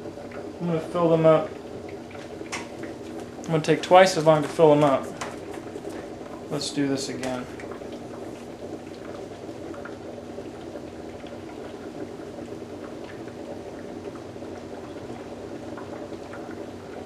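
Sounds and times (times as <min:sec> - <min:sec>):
water bubbling and fizzing: 0:00.0 - 0:17.0.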